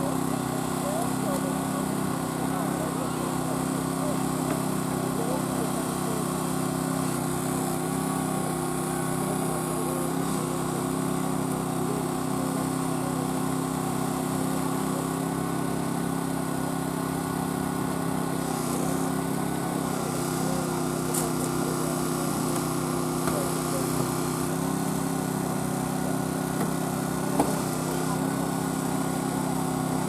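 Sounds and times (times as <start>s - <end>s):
small engine running steadily: 0.0s - 30.0s.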